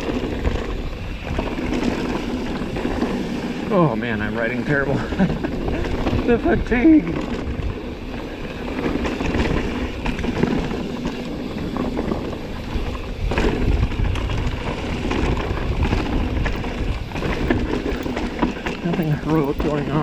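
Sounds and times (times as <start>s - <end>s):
bike tyres rumbling over dirt: 0.0s - 20.0s.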